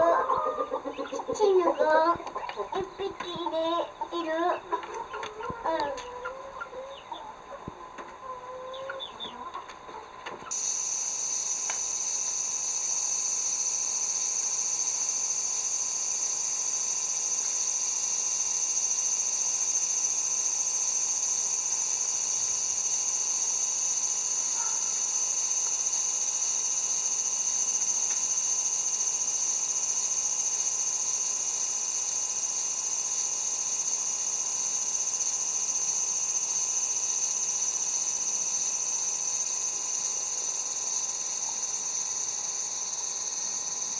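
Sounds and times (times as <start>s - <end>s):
insect chorus drone: 0.0s - 43.9s.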